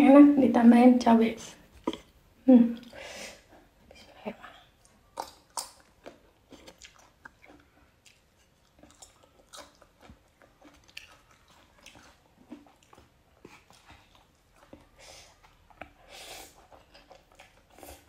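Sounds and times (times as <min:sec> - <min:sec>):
quiet chewing of noodles: 0:01.7 - 0:18.0.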